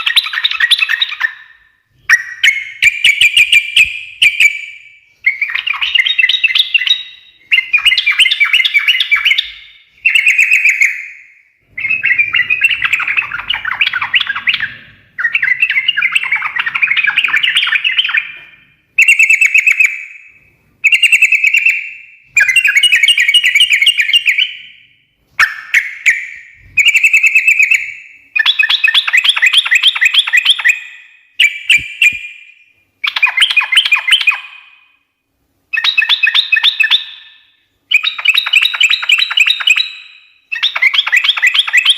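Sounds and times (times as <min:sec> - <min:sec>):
bird chattering song: 0:00.0 - 0:34.8, 0:35.7 - 0:41.9.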